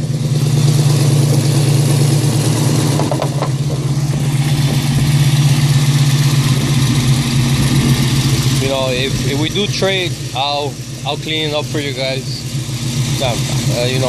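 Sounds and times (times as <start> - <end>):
car engine idling: 0.0 - 14.0
exhaust leak: 0.0 - 14.0.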